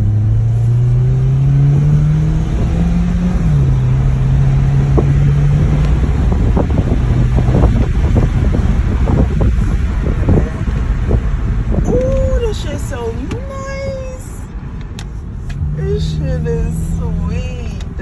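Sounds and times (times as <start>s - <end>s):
car engine accelerating: 0.0s - 18.0s
road and wind noise: 0.0s - 18.0s.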